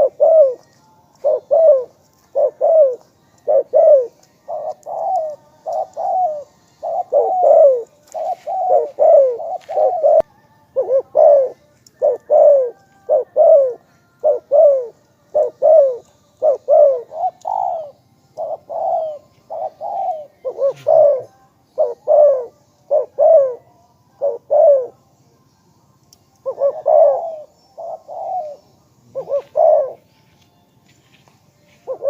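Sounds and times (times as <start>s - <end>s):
dove cooing: 0.0s - 25.0s, 26.4s - 30.1s, 31.8s - 32.0s.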